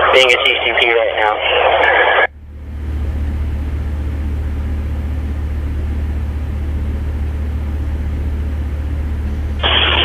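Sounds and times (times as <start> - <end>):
machinery drone: 0.0 - 10.0.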